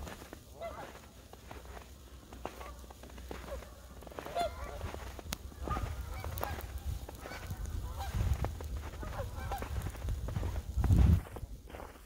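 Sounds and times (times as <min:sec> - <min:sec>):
geese honking: 0:00.0 - 0:10.7.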